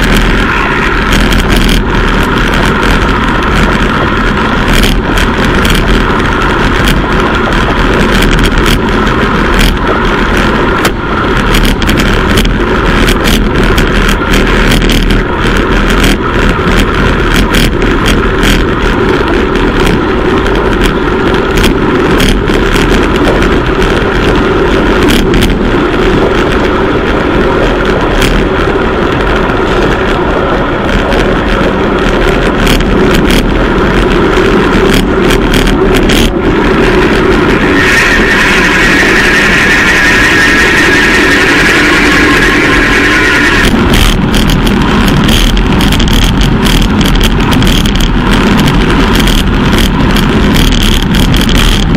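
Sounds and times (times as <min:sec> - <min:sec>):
road and tyre noise: 0:00.0 - 0:51.9
wind on microphone: 0:00.0 - 0:51.9
bike clicks and knocks: 0:01.1 - 0:37.3, 0:43.6 - 0:51.9.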